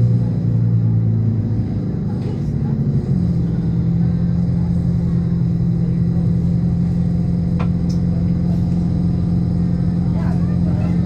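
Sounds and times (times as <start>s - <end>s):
diesel locomotive engine hum: 0.0s - 11.0s.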